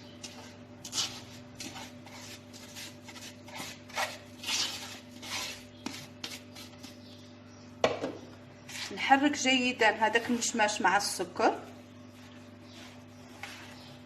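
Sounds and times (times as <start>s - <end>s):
spoon scraping in sugar: 0.0s - 7.3s, 8.6s - 11.1s, 12.0s - 14.0s.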